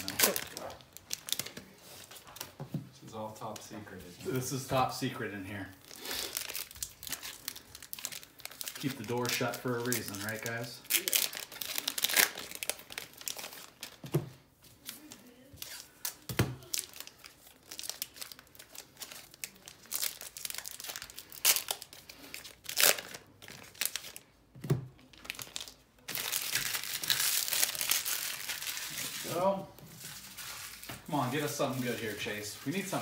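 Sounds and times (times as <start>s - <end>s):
card pack wrappers crinkling: 0.0s - 2.5s, 3.4s - 14.0s, 14.8s - 24.4s, 25.0s - 33.0s.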